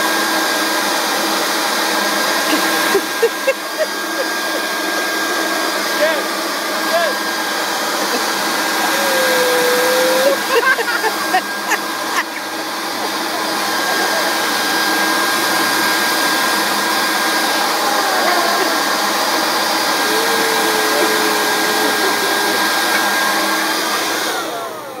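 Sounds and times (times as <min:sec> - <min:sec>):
electric leaf blower running: 0:00.0 - 0:25.0.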